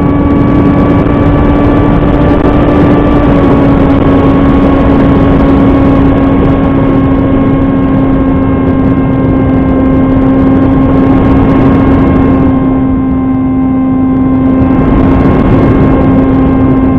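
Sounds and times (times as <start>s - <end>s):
model plane motor and propeller: 0.0s - 16.9s
rush of air noise: 0.0s - 16.9s.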